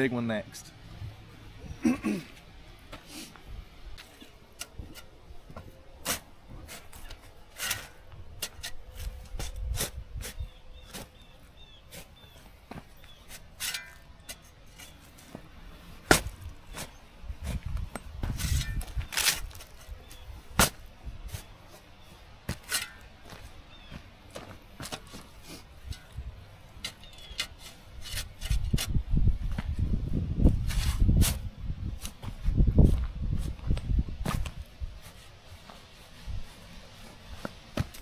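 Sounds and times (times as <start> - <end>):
shovel striking and scraping soil: 4.0 - 29.7, 30.6 - 33.6, 34.2 - 38.0.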